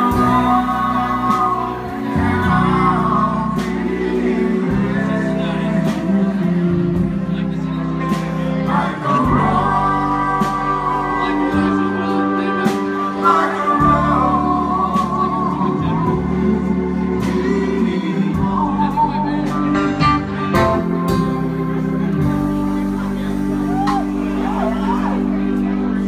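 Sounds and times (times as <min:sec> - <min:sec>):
bass: 0:00.0 - 0:26.0
organ chords: 0:00.0 - 0:26.0.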